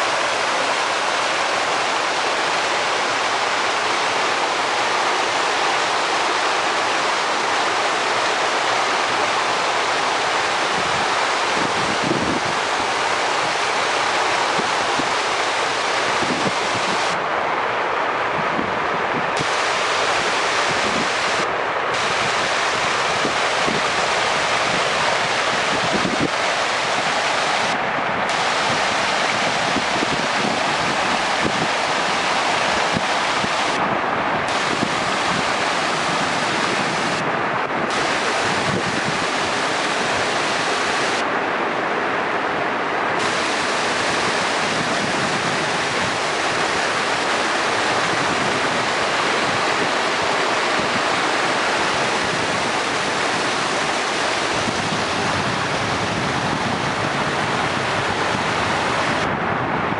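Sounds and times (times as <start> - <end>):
water rushing: 0.0 - 59.9
wind blowing across microphone: 0.0 - 59.9.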